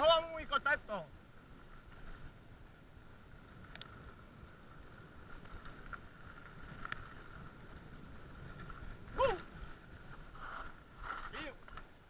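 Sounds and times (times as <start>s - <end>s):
bicycle rumbling along trail: 0.0s - 12.0s.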